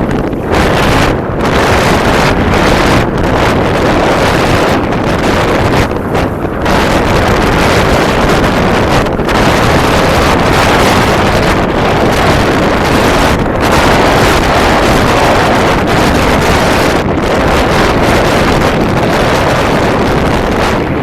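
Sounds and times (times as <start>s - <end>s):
boat engine: 0.0s - 21.0s
water noise: 0.0s - 21.0s
wind rushing over microphone: 0.0s - 21.0s.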